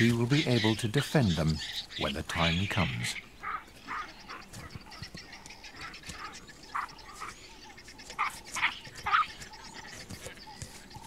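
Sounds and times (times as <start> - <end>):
baby baboons calling: 0.0 - 11.0.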